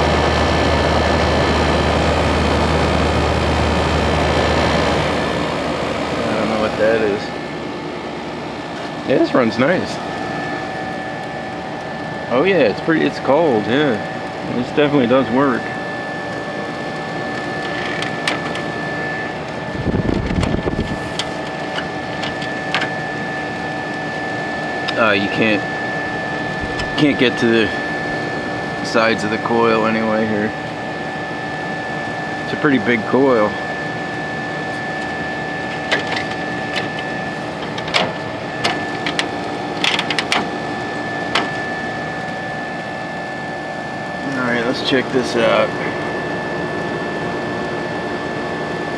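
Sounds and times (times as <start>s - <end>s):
air conditioner humming: 0.0s - 48.9s.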